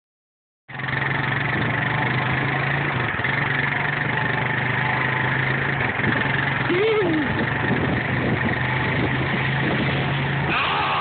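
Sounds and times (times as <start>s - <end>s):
tractor engine running: 0.7s - 11.0s.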